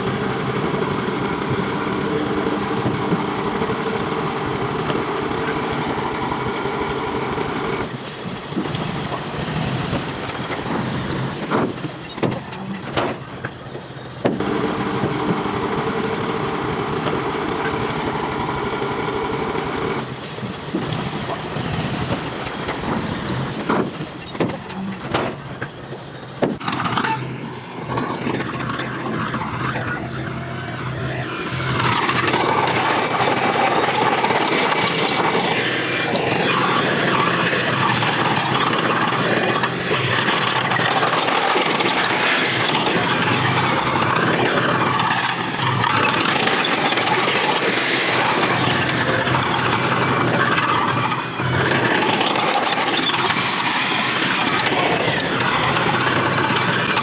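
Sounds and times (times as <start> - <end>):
dense noisy rumble: 0.0 - 57.0
diesel machinery engine droning: 0.0 - 57.0.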